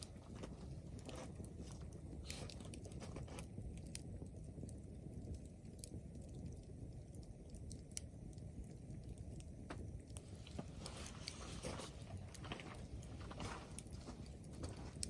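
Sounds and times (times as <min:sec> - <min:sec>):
campfire crackling and popping: 0:00.0 - 0:15.0
low rumble of burning: 0:00.0 - 0:15.0.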